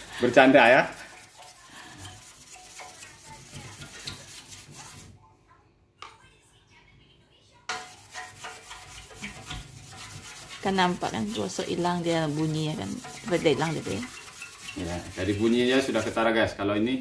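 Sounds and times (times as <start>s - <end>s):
toothbrush scrubbing on glass: 0.0s - 5.2s, 7.7s - 16.6s.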